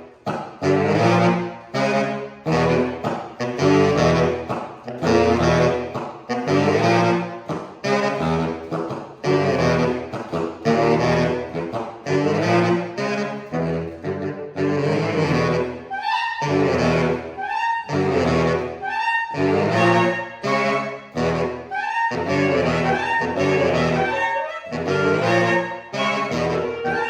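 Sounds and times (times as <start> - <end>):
high saxophone scooping notes: 0.0 - 27.0
saxophone quartet playing chords: 0.0 - 27.0.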